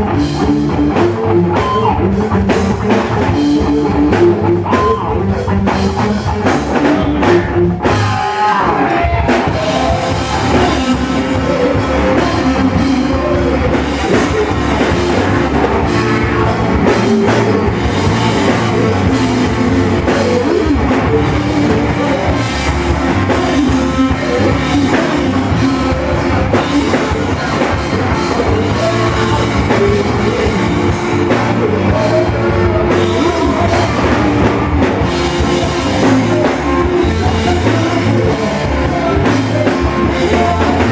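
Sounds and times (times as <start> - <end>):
loud rock band: 0.0 - 40.9.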